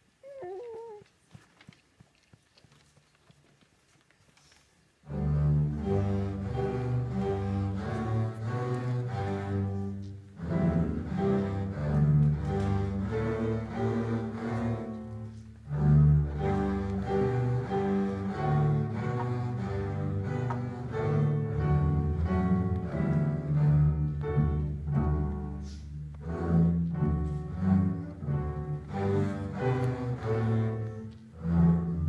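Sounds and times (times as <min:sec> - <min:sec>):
bowed cellos and basses: 0:05.0 - 0:32.0.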